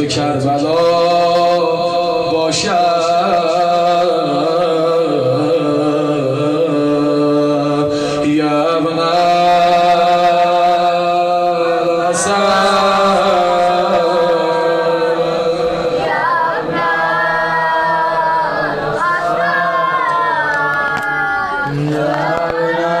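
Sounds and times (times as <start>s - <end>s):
man singing a lament: 0.0s - 23.0s.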